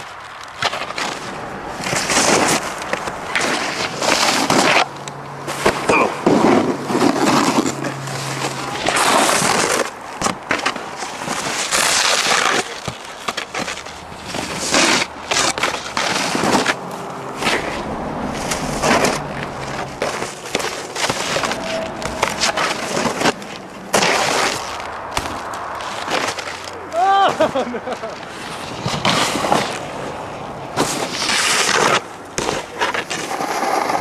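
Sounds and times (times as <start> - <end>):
snowboard scraping over snow: 0.6 - 4.9, 5.5 - 34.0.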